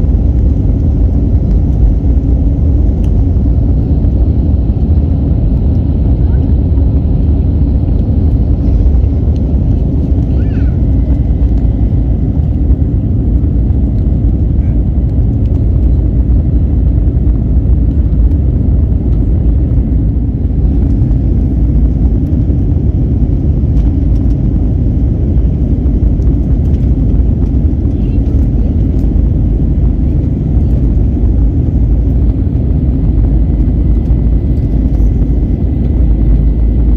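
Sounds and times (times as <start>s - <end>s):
jet engine rumble in cabin: 0.0s - 36.9s.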